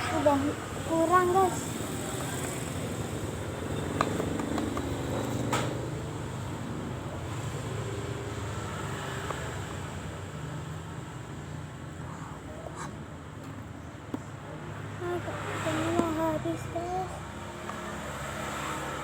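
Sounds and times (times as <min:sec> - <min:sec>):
traffic engine hum: 0:00.0 - 0:19.0.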